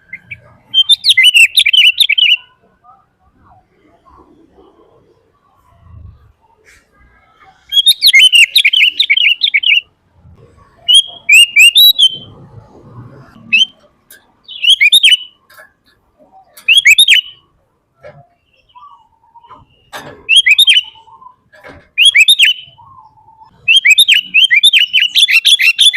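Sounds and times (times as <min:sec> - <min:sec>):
bird chattering song: 0:00.0 - 0:04.8, 0:05.4 - 0:09.9, 0:10.7 - 0:12.4, 0:13.4 - 0:25.9.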